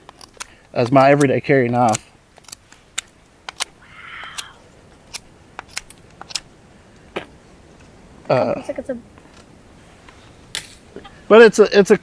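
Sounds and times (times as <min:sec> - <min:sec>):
soft rustle: 0:00.0 - 0:06.5, 0:07.4 - 0:11.9.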